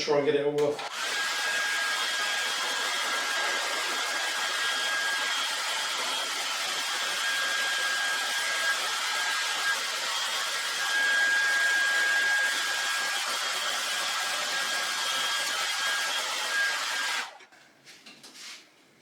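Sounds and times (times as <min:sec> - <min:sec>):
hot-air blower whining: 0:00.8 - 0:17.5.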